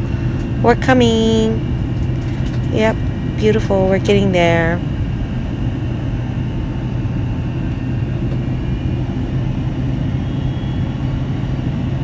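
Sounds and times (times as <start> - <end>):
airliner cabin engine drone: 0.0 - 12.0
constant low hum: 0.0 - 12.0.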